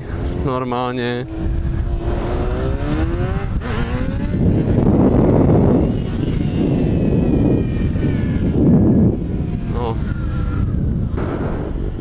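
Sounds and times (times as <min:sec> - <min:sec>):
motorcycle engine accelerating: 0:00.0 - 0:12.0
wind rushing: 0:00.0 - 0:12.0.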